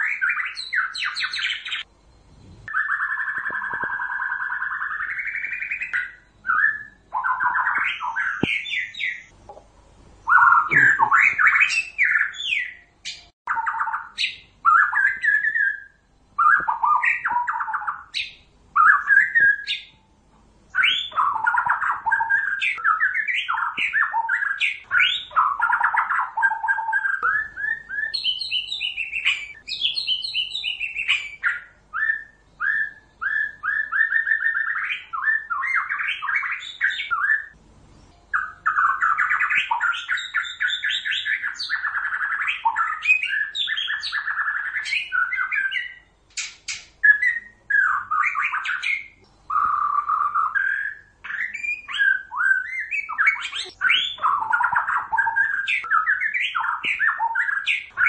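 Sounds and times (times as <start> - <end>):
bird singing whistled phrases: 0.0 - 1.9, 2.7 - 9.3, 10.2 - 20.0, 20.7 - 58.0.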